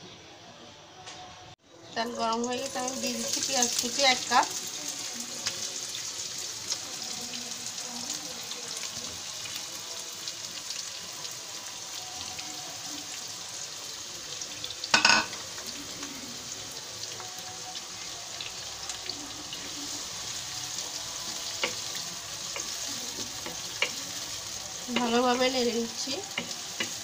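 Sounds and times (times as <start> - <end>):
onions sizzling in oil: 1.7 - 27.0.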